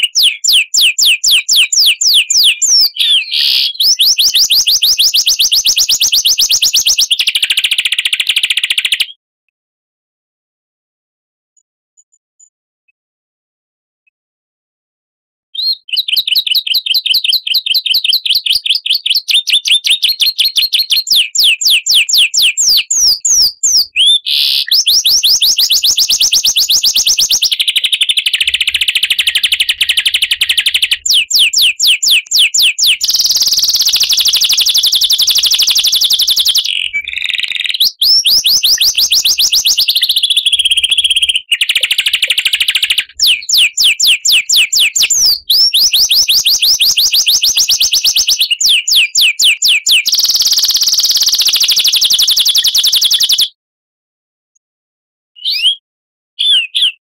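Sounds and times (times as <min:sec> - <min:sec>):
songbird song with trills: 0:00.0 - 0:09.2, 0:15.6 - 0:53.5, 0:55.4 - 0:55.8, 0:56.4 - 0:57.0.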